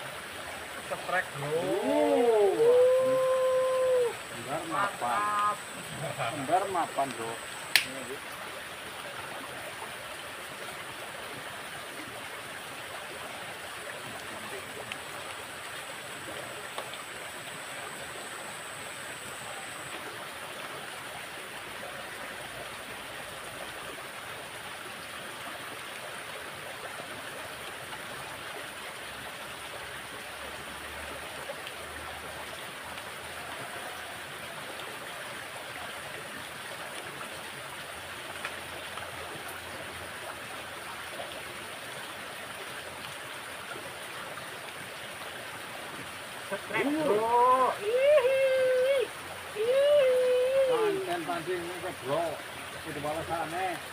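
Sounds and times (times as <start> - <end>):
water rushing in a ditch: 0.0 - 53.9.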